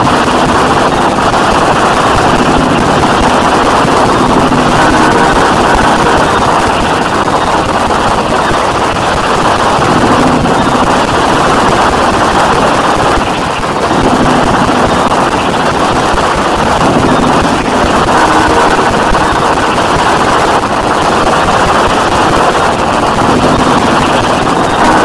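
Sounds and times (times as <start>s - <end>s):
harsh distorted noise music: 0.0s - 25.0s.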